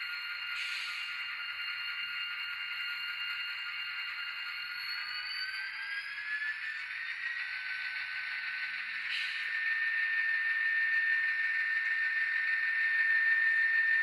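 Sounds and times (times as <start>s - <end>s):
toy train diesel engine sound: 0.0s - 14.0s.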